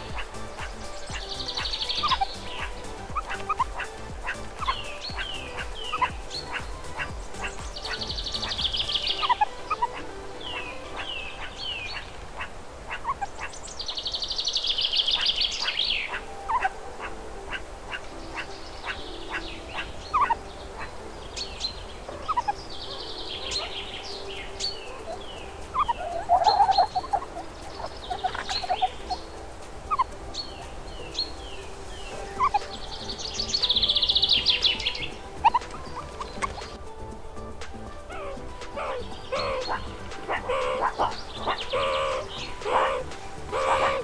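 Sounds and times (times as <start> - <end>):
bird lower warble: 0.0 - 36.9, 37.9 - 44.0
bird buzzy trill: 0.0 - 44.0
songbirds chirping: 0.0 - 44.0.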